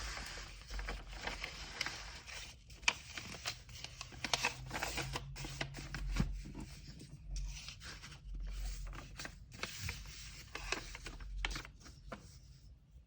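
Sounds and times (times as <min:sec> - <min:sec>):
paper and tape rustling: 0:00.0 - 0:12.6.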